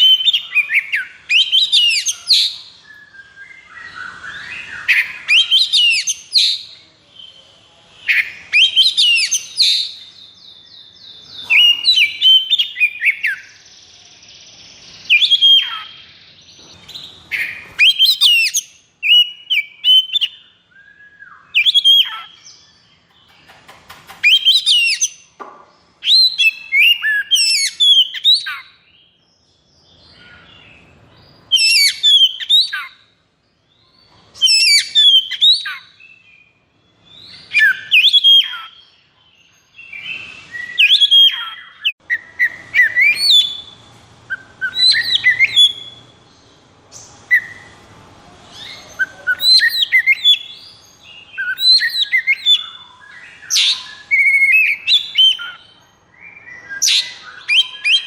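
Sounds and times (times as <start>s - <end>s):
bird singing whistles and chatter: 0.0s - 29.2s, 29.9s - 33.1s, 33.8s - 46.2s, 46.9s - 47.8s, 48.5s - 58.0s.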